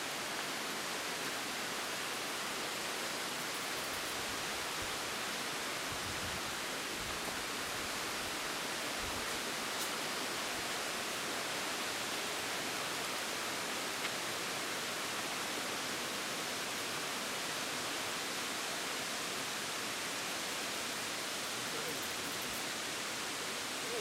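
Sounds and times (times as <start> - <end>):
outdoor background hiss: 0.0 - 24.0.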